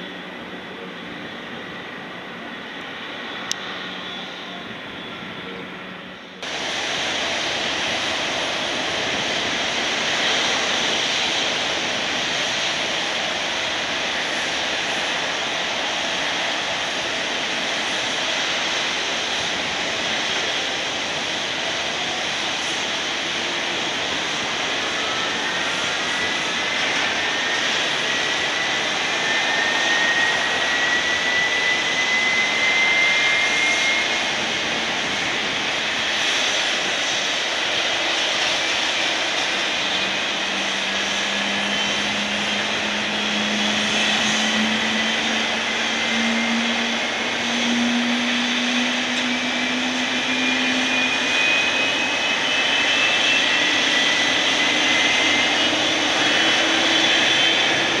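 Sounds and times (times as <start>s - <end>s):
jet engine whine rising: 0.0s - 58.0s
loud steady rush: 0.0s - 58.0s.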